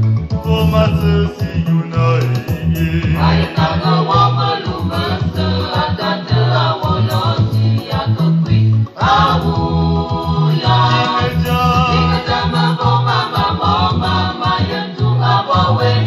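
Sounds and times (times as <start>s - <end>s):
bass line: 0.0s - 16.0s
gospel voices singing: 0.3s - 16.0s.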